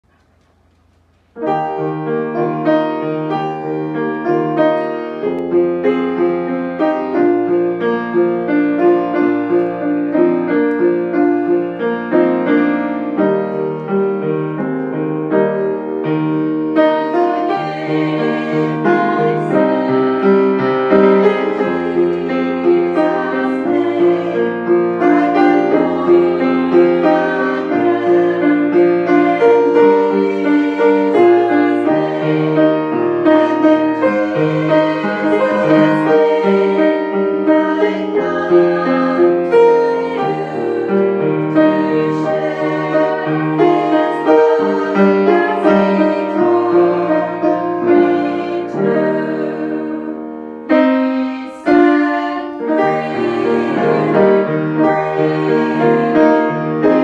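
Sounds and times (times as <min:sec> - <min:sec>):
grand piano chords and melody: 0:00.0 - 0:57.0.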